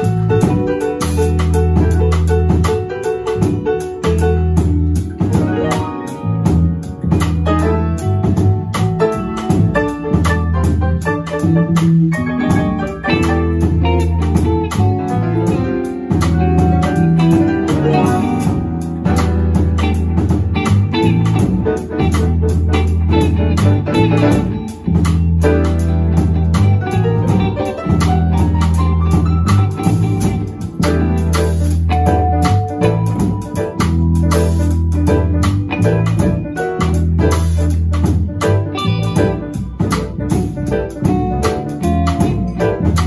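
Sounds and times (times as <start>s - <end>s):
drum kit cymbals: 0.0s - 43.0s
electric bass: 0.0s - 43.0s
electric guitar: 0.0s - 43.0s
grand piano: 0.0s - 43.0s.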